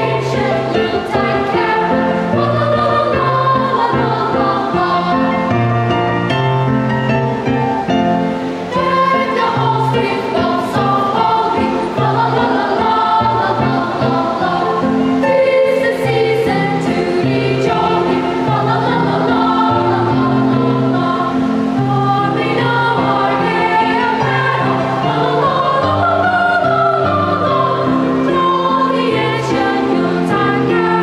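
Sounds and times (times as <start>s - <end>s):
children's choir singing: 0.0s - 31.0s.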